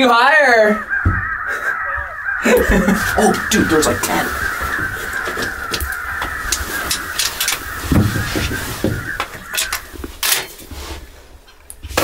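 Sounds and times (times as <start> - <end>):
crows cawing: 0.3 - 10.4.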